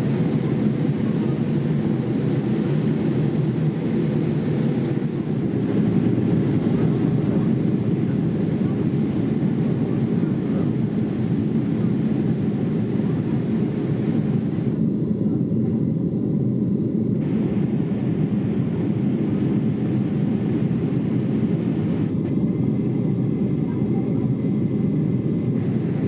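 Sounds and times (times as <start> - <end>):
airliner cabin noise: 0.0 - 26.0.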